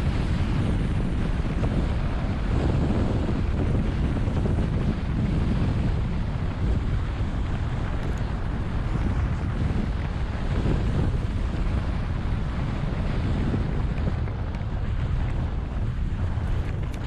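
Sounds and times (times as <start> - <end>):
skis running over snow: 0.0 - 17.0
wind buffeting microphone: 0.0 - 17.0.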